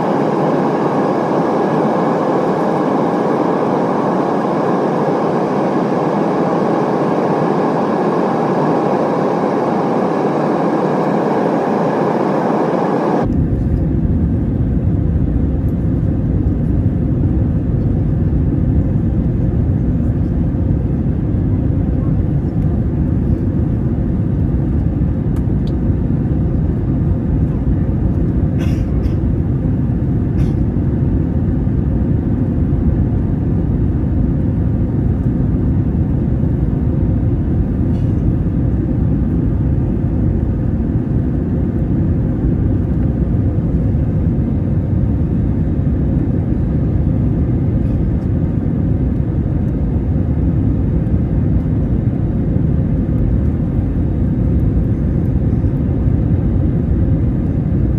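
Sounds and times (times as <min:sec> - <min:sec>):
jet engine cabin rumble: 0:00.0 - 0:57.9.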